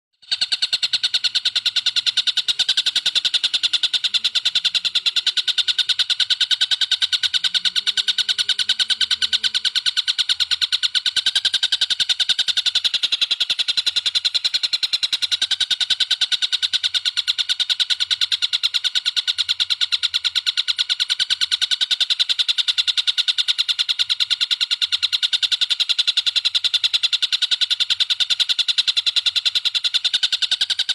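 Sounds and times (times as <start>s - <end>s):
bird trilling: 0.2s - 30.9s.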